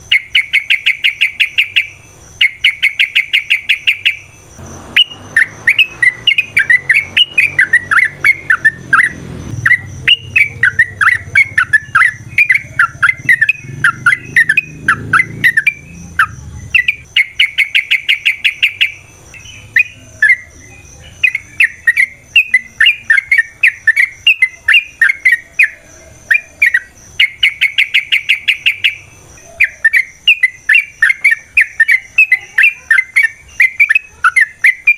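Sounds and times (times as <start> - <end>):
bulbul singing rapid notes: 0.0 - 34.9.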